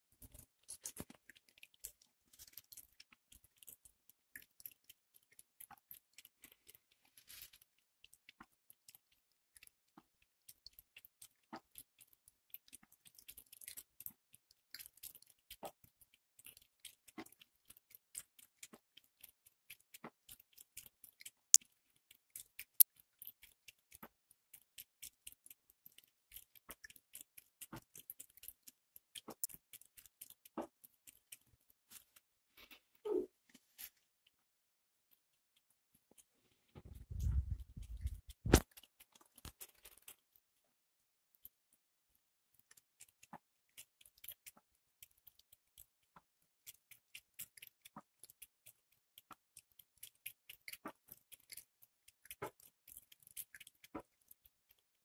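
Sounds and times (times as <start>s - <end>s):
cat lapping water: 0.2s - 32.8s, 35.1s - 40.4s, 42.5s - 54.9s.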